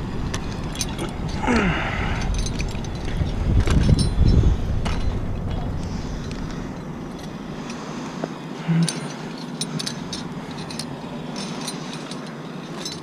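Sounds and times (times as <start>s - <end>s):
metallic clinking and jangling: 0.3s - 7.9s, 8.6s - 13.0s.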